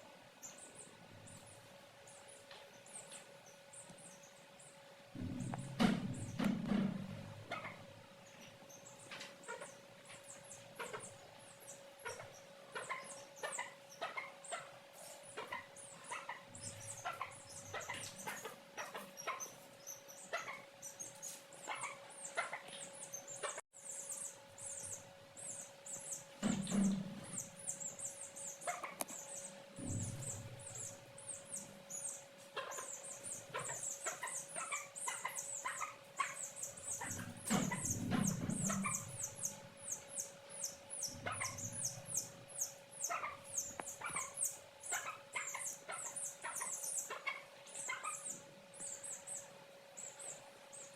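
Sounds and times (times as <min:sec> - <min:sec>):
steady low hum: 0:00.0 - 0:50.9
chicks peeping: 0:08.4 - 0:50.9.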